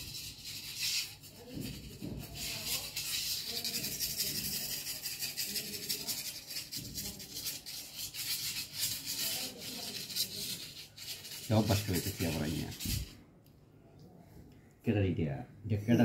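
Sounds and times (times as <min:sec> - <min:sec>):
wooden stick scraping concrete: 0:00.0 - 0:13.2.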